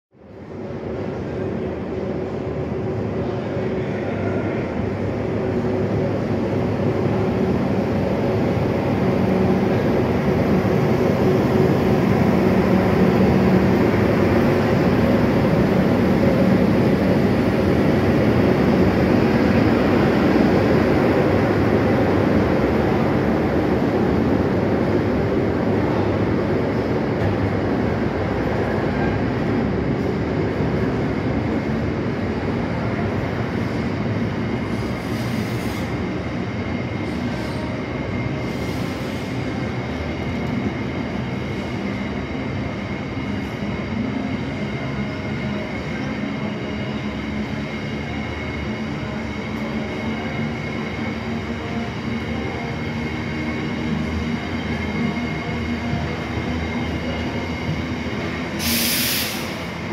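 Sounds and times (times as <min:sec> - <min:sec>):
electric locomotive hum: 0:00.2 - 0:59.9
train wheels rumbling on rail: 0:00.2 - 0:59.9.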